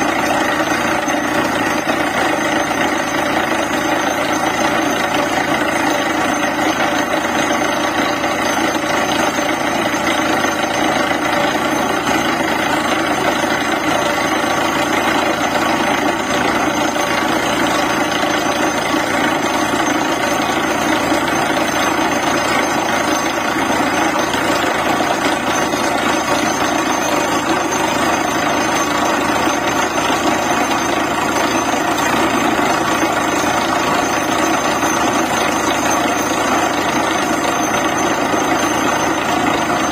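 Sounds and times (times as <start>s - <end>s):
drilling rig din: 0.0s - 39.9s.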